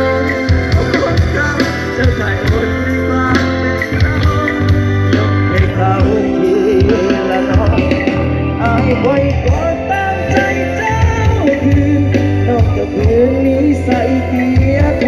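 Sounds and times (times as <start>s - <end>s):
song over loudspeaker: 0.0s - 15.0s.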